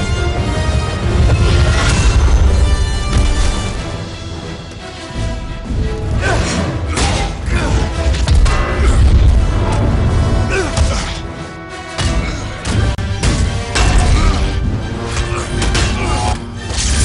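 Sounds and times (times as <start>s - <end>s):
dramatic orchestral score: 0.0s - 17.0s.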